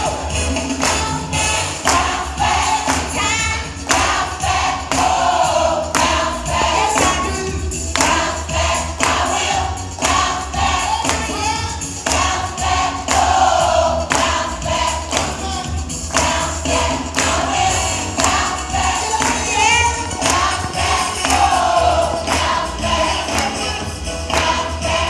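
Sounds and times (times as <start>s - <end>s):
choir singing: 0.0s - 25.0s
sharp percussion strikes: 0.0s - 25.0s.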